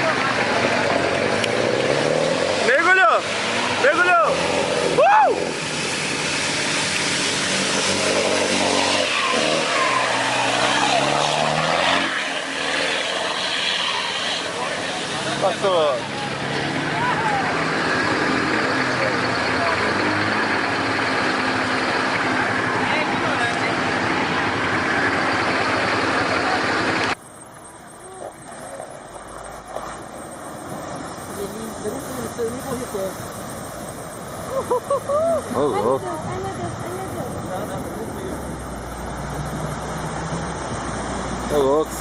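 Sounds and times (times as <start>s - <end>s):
steady rush of noise: 0.0s - 42.0s
truck engine revving: 0.0s - 42.0s.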